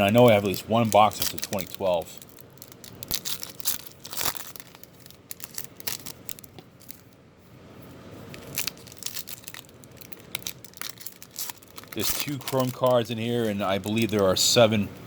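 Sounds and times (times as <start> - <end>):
card pack wrappers tearing: 0.0 - 7.0, 8.3 - 14.6.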